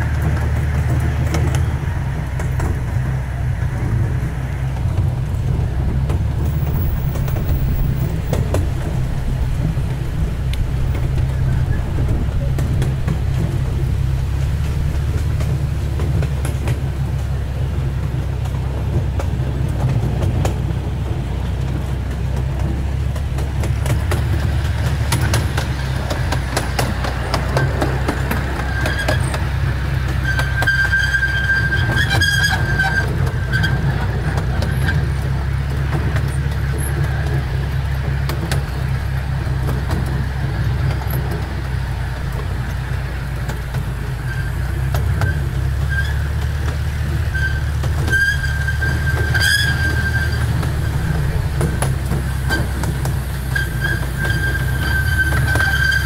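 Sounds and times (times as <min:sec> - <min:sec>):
miniature train rumbling on track: 0:00.0 - 0:56.0.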